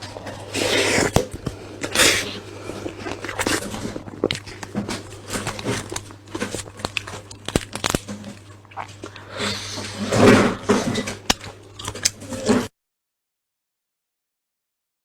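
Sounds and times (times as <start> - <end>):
food being chewed crunchily: 0.0 - 12.7.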